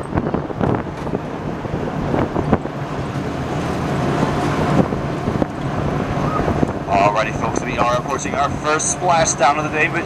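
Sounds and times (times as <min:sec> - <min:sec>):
vehicle engine running: 0:00.0 - 0:10.0
wind noise: 0:00.0 - 0:10.0.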